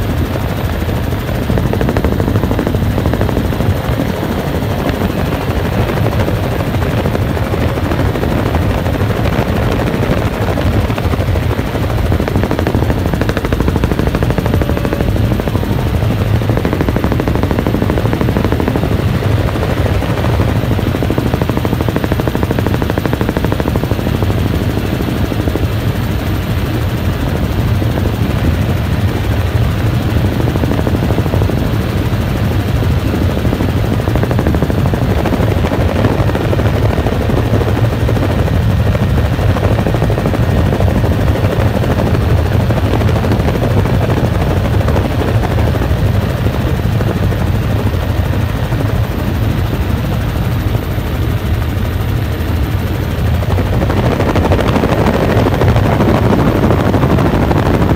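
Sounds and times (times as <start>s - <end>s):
helicopter rotor and engine drone: 0.0s - 57.9s.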